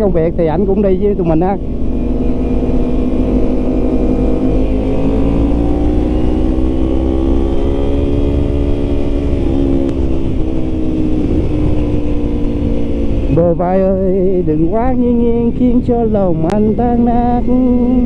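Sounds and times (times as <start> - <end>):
low wind noise: 0.0 - 18.0
motorcycle engine cruising: 0.0 - 18.0.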